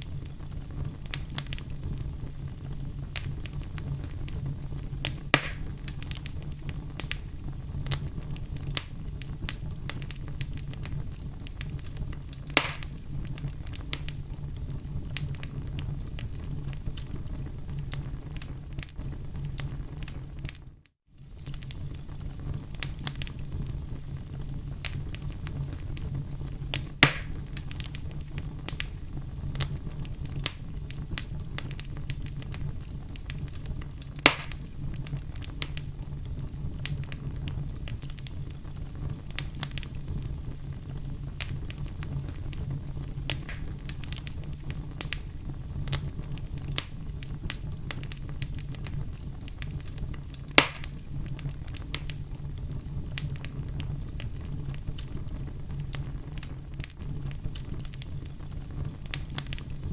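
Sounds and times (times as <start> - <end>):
loud sharp fire pops: 0.0 - 20.6, 24.7 - 59.9
small fire crackles: 0.0 - 59.9
wood fire rumbling: 0.0 - 59.9.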